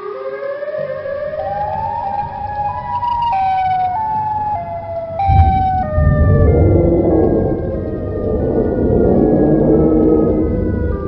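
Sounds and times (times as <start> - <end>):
hi-lo siren: 0.0 - 11.0
deep rumble: 1.2 - 11.0.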